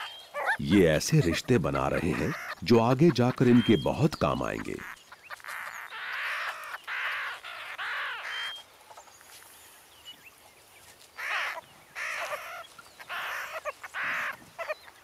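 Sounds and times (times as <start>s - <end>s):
meerkat pups squealing: 0.0s - 8.6s, 11.2s - 15.0s.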